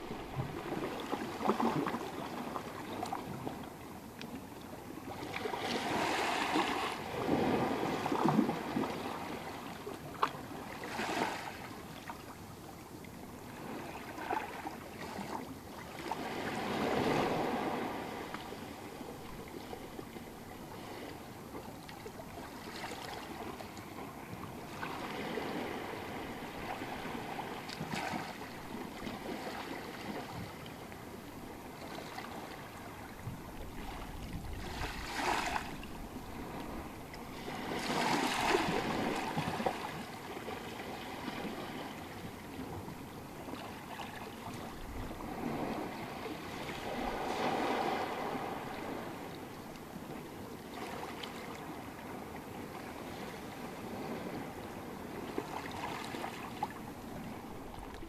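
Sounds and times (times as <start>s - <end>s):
small waves washing onto sand: 5.0s - 12.3s, 13.4s - 58.0s.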